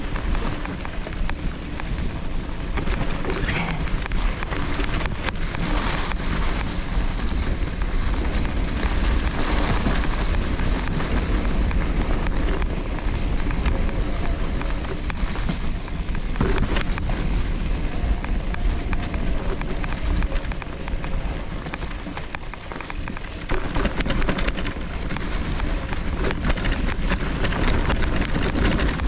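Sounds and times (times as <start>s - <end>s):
bike rattling knocks: 0.0s - 29.0s
tyre rumble: 0.0s - 29.0s
wind rushing over microphone: 0.0s - 29.0s.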